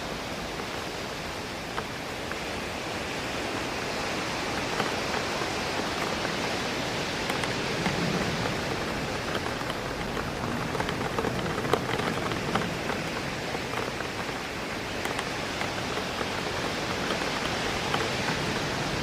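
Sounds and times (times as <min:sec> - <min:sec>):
rain hiss: 0:00.0 - 0:19.0
wind through trees: 0:00.0 - 0:19.0
raindrops ticking on glass: 0:01.5 - 0:19.0.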